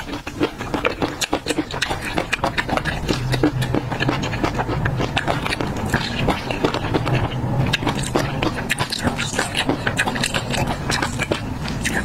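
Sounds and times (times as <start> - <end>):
crunchy chewing: 0.0 - 12.0
low steady hum: 0.0 - 12.0
wet mouth clicks: 0.0 - 12.0.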